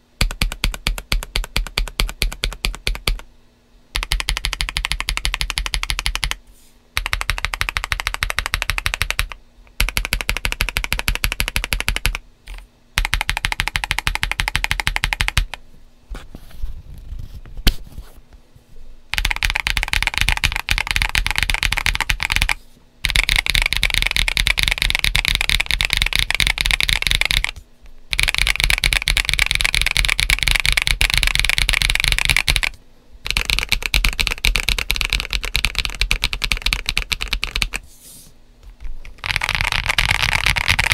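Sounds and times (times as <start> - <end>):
mechanical keyboard typing: 0.2 - 3.3, 4.0 - 6.4, 7.0 - 15.6, 19.1 - 37.8, 39.0 - 40.9.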